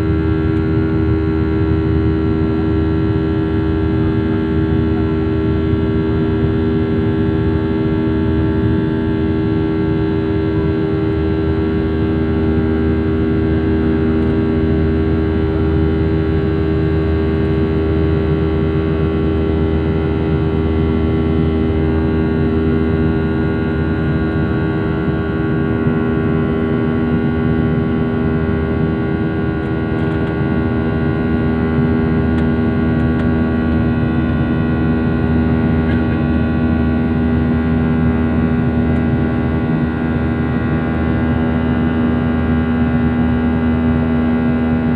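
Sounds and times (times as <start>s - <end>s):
aircraft engines droning: 0.0s - 44.9s.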